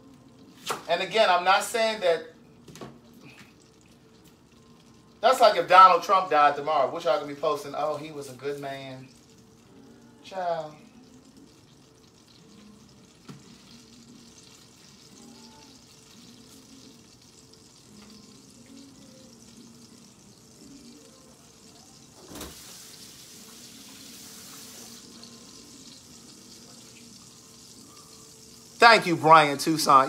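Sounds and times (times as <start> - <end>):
butter sizzling in a frying pan: 0.0 - 30.0.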